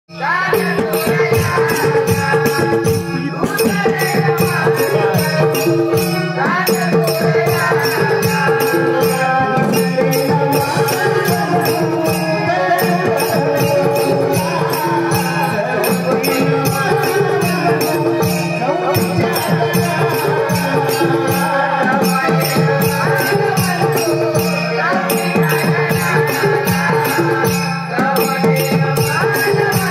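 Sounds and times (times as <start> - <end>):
men singing: 0.1 - 29.9
drum beat: 0.2 - 29.9
hand cymbals: 0.2 - 29.9.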